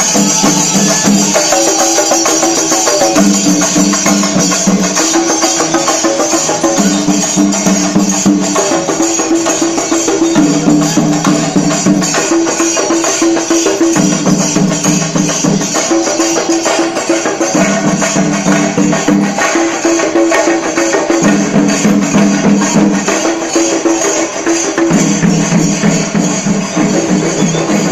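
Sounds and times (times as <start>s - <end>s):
drums beaten in fast rhythm: 0.0s - 27.9s
jangling cymbals: 0.0s - 27.9s.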